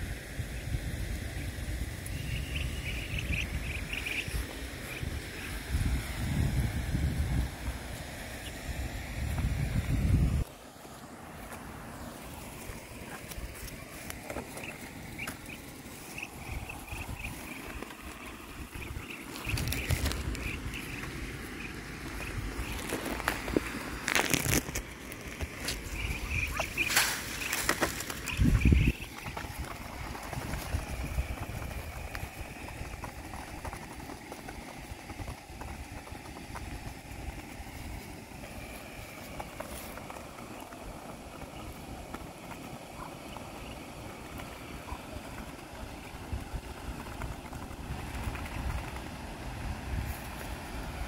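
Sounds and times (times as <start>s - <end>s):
outdoor background noise: 0.0s - 51.0s
ducklings pecking at feed dish: 1.0s - 10.6s, 11.4s - 51.0s.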